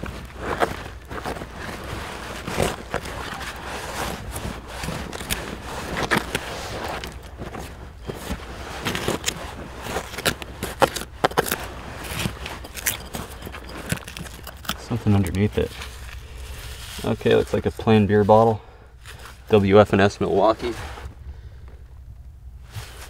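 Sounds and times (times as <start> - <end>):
grit and small stones crunching: 0.0 - 21.2
hands scraping loose dirt: 0.0 - 21.2.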